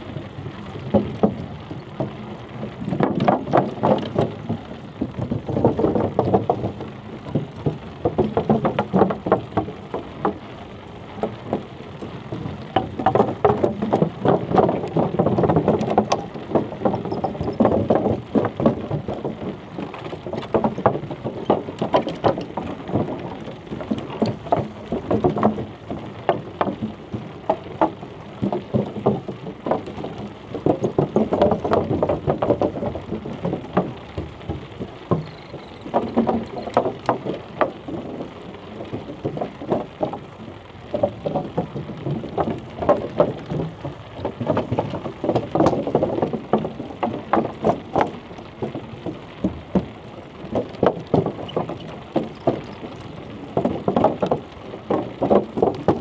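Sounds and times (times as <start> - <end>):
bicycle riding rumble: 0.0 - 56.0.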